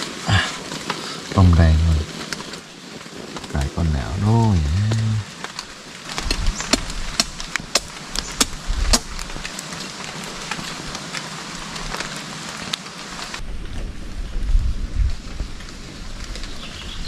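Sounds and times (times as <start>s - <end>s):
sharp crackles and ticks: 0.0s - 16.8s
rain falling: 0.0s - 17.0s.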